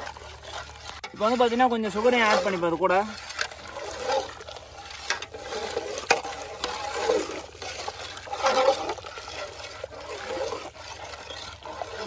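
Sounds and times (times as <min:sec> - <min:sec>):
liquid sloshing in a pot: 0:00.0 - 0:12.0.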